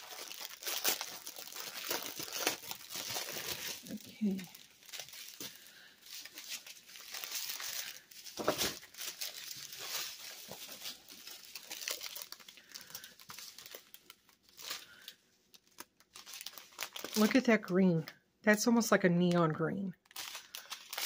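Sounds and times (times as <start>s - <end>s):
plastic packaging crinkling: 0.0s - 17.8s, 20.0s - 21.0s.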